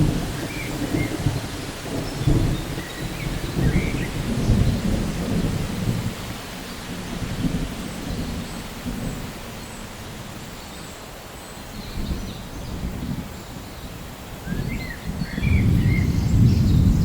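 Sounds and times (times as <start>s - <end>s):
low rolling thunder: 0.0s - 9.4s, 12.0s - 17.0s
steady rain: 0.0s - 17.0s.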